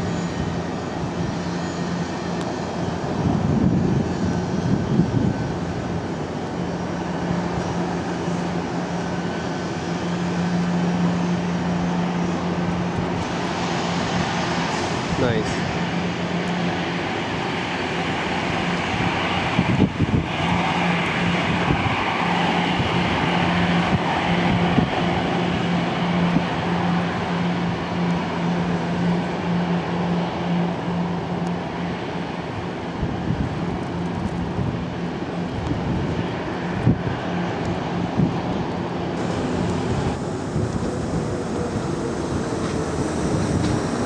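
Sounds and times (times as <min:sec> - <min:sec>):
jet engines taxiing: 0:00.0 - 0:44.0
low engine hum: 0:00.0 - 0:44.0.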